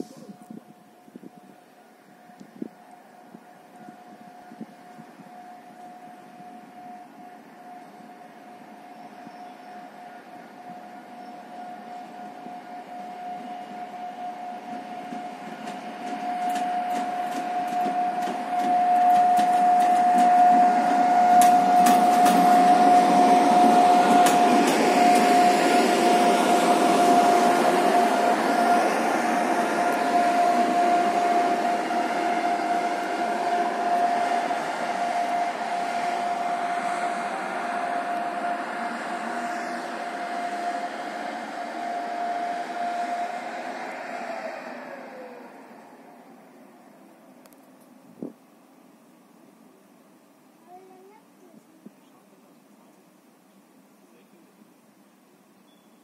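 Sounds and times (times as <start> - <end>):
high-pitched whine: 0.0 - 48.4
locomotive passing: 0.0 - 56.0.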